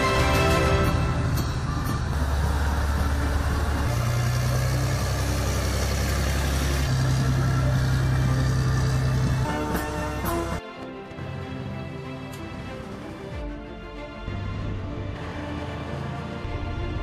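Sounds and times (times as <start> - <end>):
heavy diesel truck engine: 0.0 - 10.6, 11.2 - 17.0.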